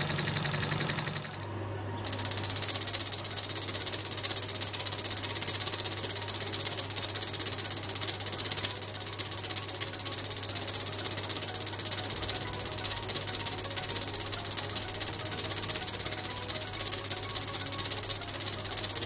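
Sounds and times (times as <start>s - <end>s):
fast mechanical clatter: 0.0s - 19.0s.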